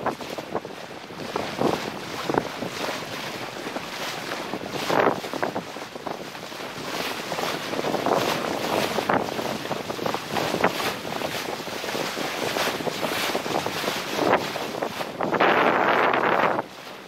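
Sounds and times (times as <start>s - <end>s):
water rushing along boat hull: 0.0s - 17.0s
wind buffeting microphone: 0.0s - 17.0s.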